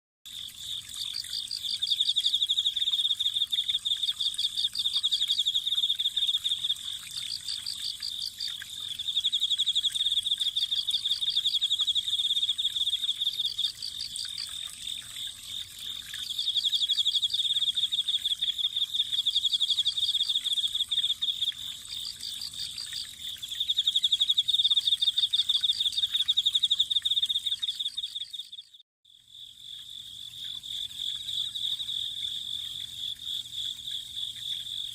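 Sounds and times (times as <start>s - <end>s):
crickets trilling: 0.3s - 34.9s.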